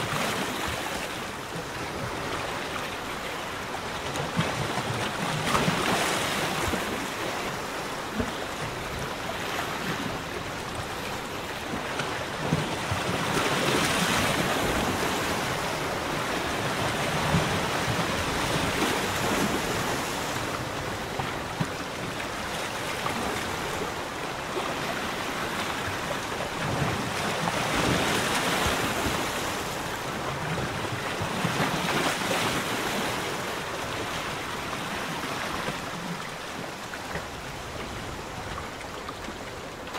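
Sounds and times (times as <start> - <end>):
small waves lapping against a pontoon: 0.0 - 39.9.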